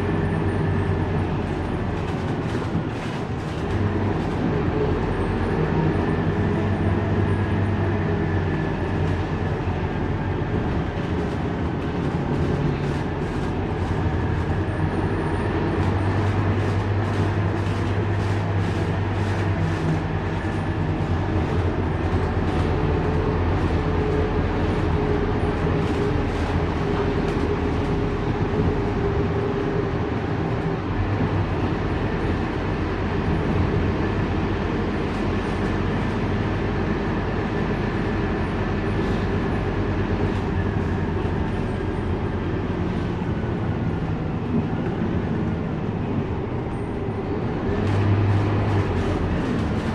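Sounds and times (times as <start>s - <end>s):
bus engine drone: 0.0s - 49.9s
road noise: 0.0s - 49.9s.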